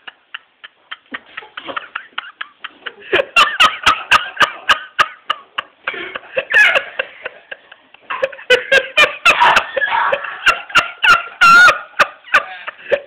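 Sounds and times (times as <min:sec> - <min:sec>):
person laughing: 0:00.0 - 0:13.0.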